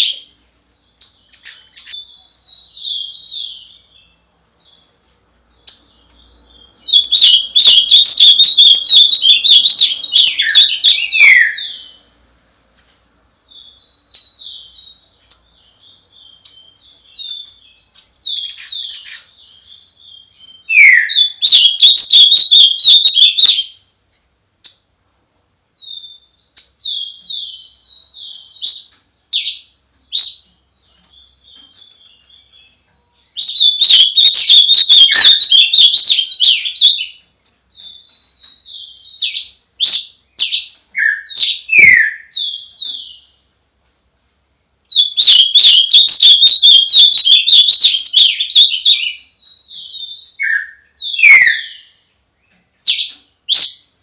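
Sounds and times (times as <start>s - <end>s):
bird chirping: 0.0s - 24.0s, 25.8s - 43.6s, 44.7s - 54.0s.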